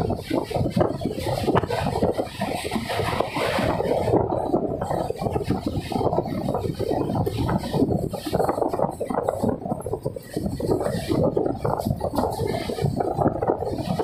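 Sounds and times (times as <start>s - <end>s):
wind buffeting the microphone: 0.0s - 14.0s.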